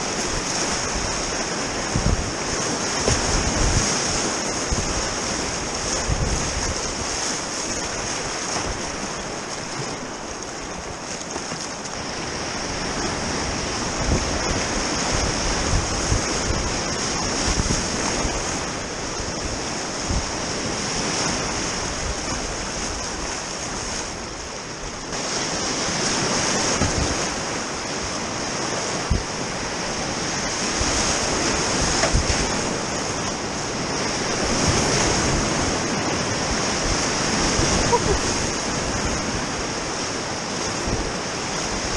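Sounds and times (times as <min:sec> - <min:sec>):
water thudding against boat: 0:00.0 - 0:12.2, 0:20.1 - 0:41.9
whitewater rapids rushing: 0:00.0 - 0:41.9.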